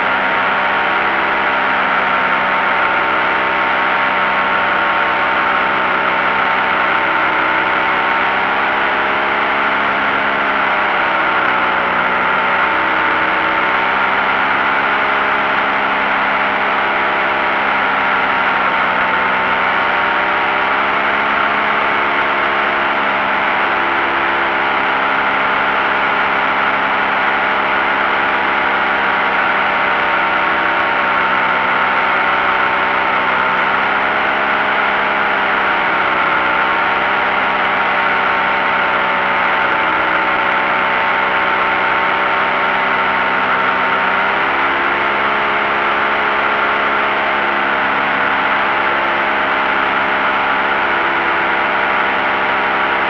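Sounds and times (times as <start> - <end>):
paramotor engine droning: 0.0 - 53.0.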